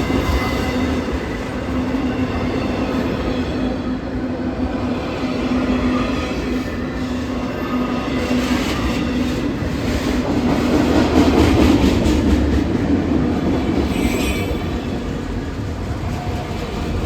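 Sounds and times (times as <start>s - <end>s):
freight train cars rolling past: 0.0s - 17.0s.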